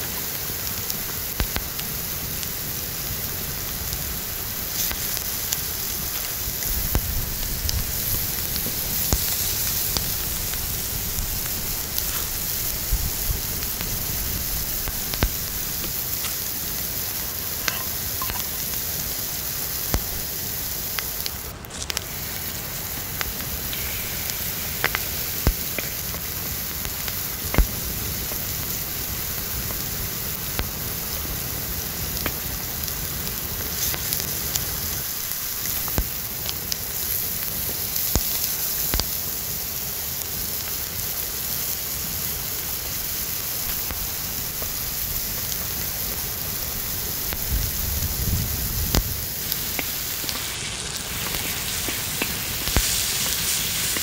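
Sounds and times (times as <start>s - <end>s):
crackling fire: 0.0s - 54.0s
food sizzling in oil: 0.0s - 54.0s.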